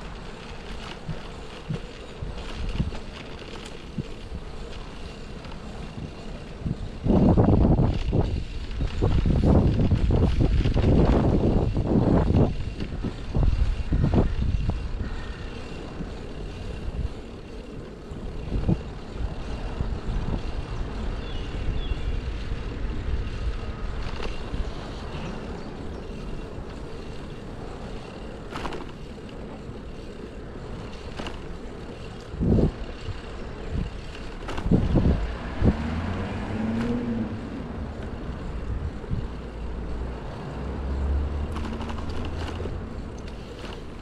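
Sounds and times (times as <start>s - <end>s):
traffic rumbling past: 0.0s - 44.0s.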